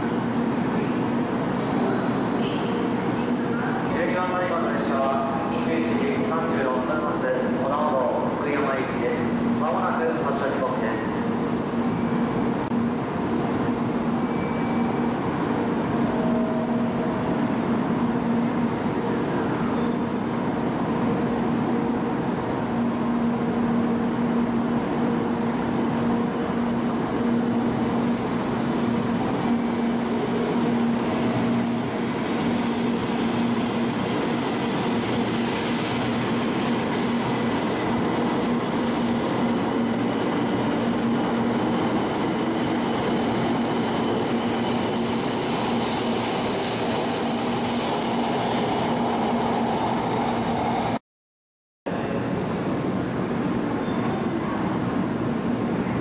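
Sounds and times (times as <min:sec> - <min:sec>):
train equipment humming: 0:00.0 - 0:51.0
train pulling out: 0:00.0 - 0:51.0.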